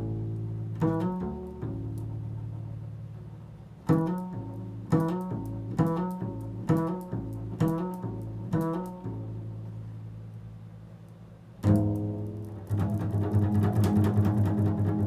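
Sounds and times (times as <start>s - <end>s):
plucked pitched notes: 0.0s - 10.0s, 11.6s - 15.0s.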